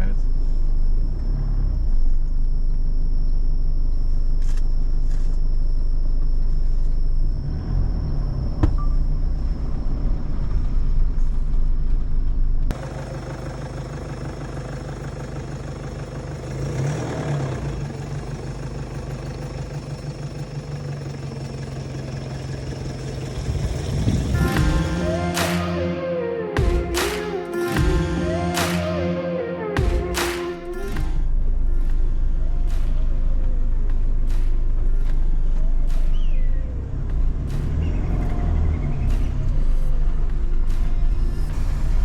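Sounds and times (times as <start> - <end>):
road rumble on rough track: 0.0 - 24.7, 31.0 - 42.0
vehicle engine: 0.0 - 42.0.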